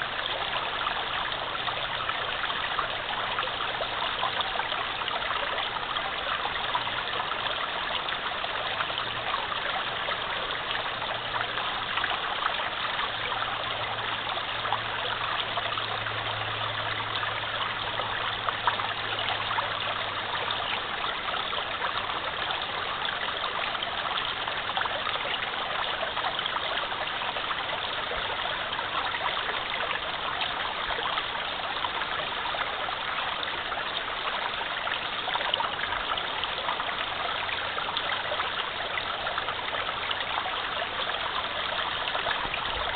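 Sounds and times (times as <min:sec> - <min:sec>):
stream flowing over stones: 0:00.0 - 0:42.9.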